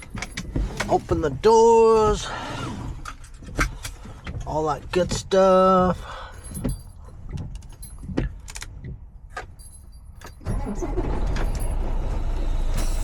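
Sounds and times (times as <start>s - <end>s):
clicks and knocks in cab: 0.0s - 2.3s, 3.3s - 11.8s.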